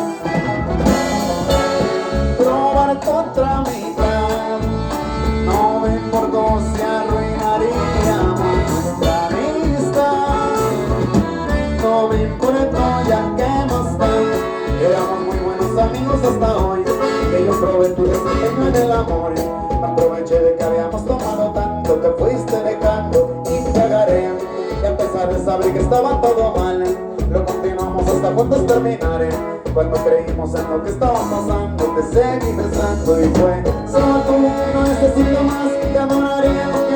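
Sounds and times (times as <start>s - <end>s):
live band playing latin music: 0.0s - 36.9s.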